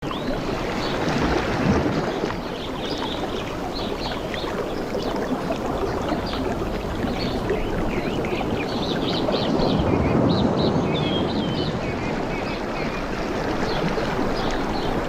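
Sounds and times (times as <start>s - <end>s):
water washing: 0.0s - 10.7s, 11.3s - 15.0s
birds chirping: 0.0s - 15.0s.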